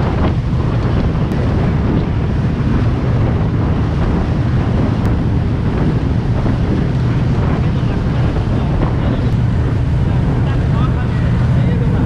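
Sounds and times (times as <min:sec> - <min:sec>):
water churning in wake: 0:00.0 - 0:12.0
wind buffeting microphone: 0:00.0 - 0:12.0.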